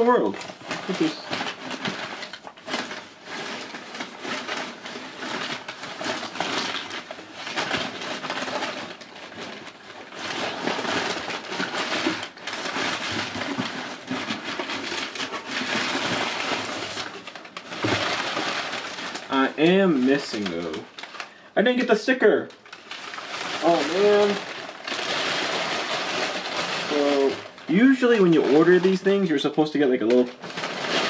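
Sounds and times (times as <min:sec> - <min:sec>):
packaging rustling and crinkling: 0:00.0 - 0:31.0.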